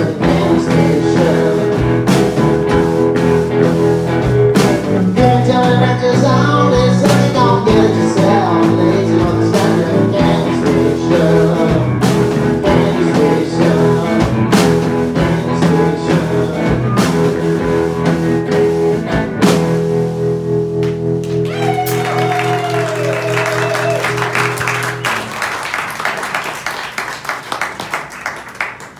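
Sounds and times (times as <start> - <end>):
electric guitar: 0.0 - 27.6
rock band playing: 0.0 - 28.2.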